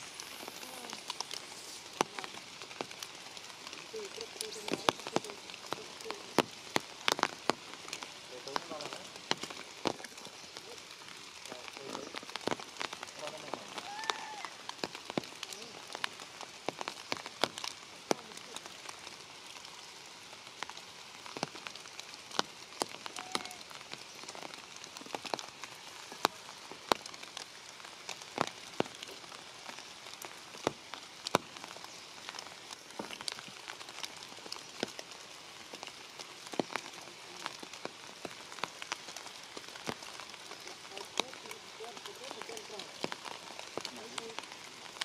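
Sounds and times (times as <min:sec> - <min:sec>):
rain pattering on leaves: 0:00.0 - 0:45.0.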